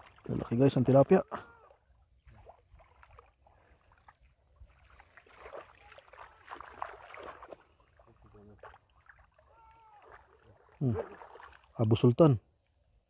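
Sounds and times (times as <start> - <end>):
water splashing and sloshing: 0.0 - 12.9.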